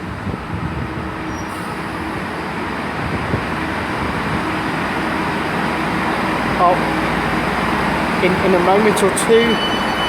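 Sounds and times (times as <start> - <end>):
diesel train rumbling on rails: 0.0 - 10.0.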